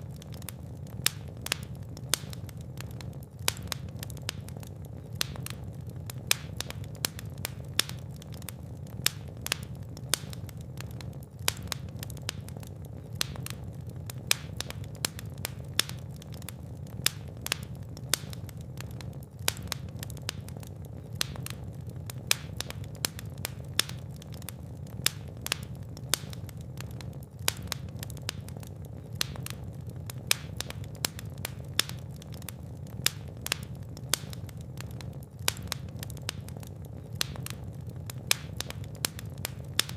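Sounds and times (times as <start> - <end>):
fireplace fire crackling: 0.0 - 39.9
low rumble of flame: 0.0 - 39.9
sharp pops and snaps: 0.0 - 39.9.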